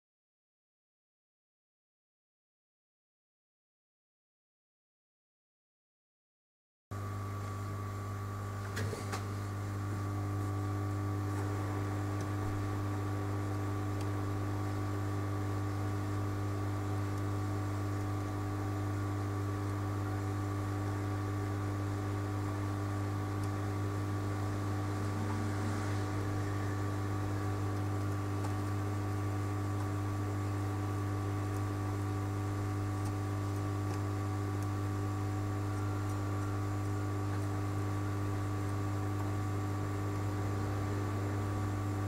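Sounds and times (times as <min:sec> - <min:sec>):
low electrical hum: 0:07.0 - 0:42.0.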